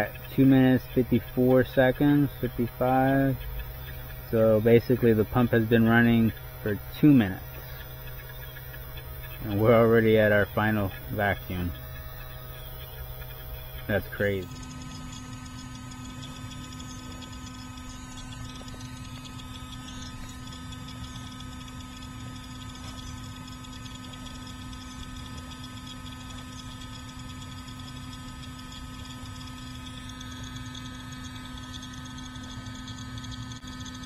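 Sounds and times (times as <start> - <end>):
vacuum pump humming: 0.0 - 34.0.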